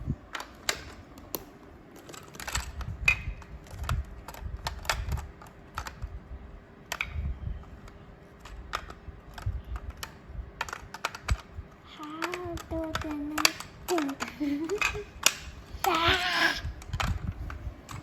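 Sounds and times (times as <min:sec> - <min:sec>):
plastic bricks clicking together: 0:00.3 - 0:06.1, 0:06.8 - 0:07.2, 0:07.8 - 0:18.0.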